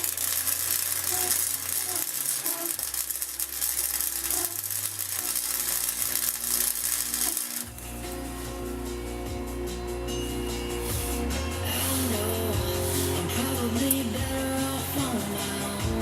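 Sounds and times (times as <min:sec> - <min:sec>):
welding arc crackling sizzle: 0:00.0 - 0:09.7, 0:10.8 - 0:16.0.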